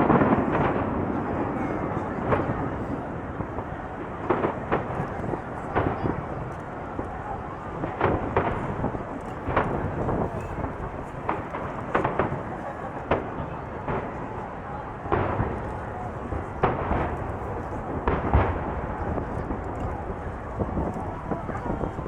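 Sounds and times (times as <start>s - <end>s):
fireworks bangs: 0.0s - 22.0s
rumble of fireworks bursts: 0.0s - 22.0s.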